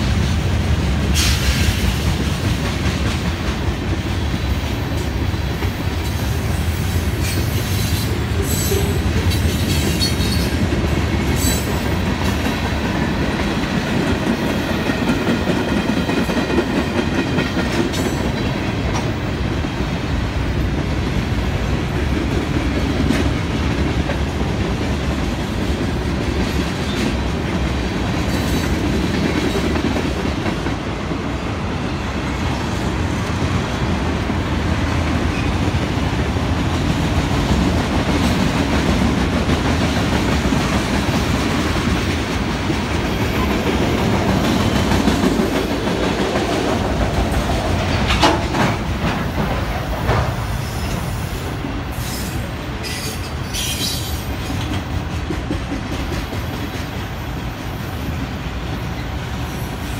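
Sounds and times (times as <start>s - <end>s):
freight train wheels clacking: 0.0s - 59.9s.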